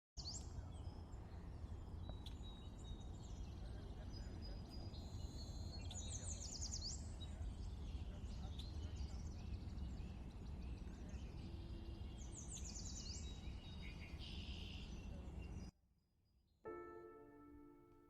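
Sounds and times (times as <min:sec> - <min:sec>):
birds whistling and chirping: 0:00.2 - 0:15.7.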